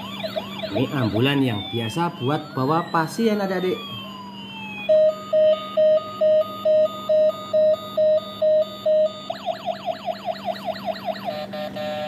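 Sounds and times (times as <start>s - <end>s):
low steady hum: 0.0s - 12.0s
toy electronic siren: 0.0s - 12.0s.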